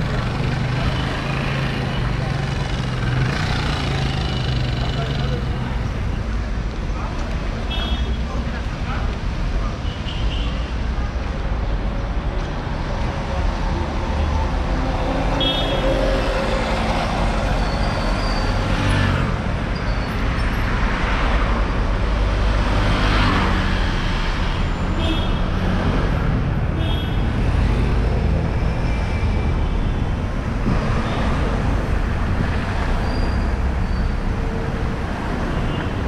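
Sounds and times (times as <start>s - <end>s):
cars and scooters driving past: 0.0s - 6.1s, 12.6s - 36.0s.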